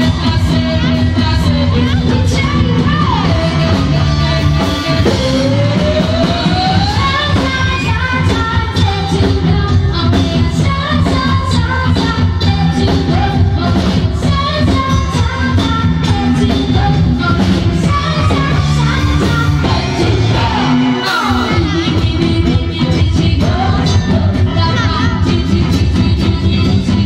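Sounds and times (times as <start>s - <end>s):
live band playing: 0.0s - 27.0s
woman singing: 0.0s - 27.0s.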